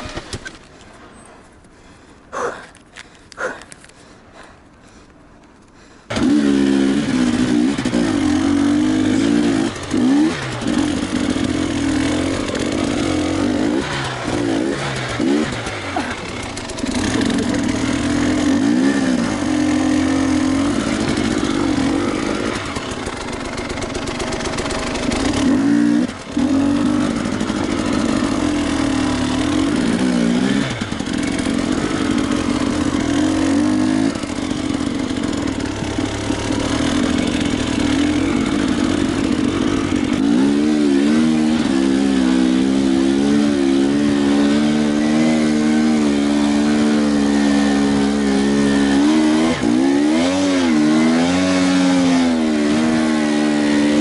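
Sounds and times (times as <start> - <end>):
motorcycle engine revving: 6.1 - 54.0.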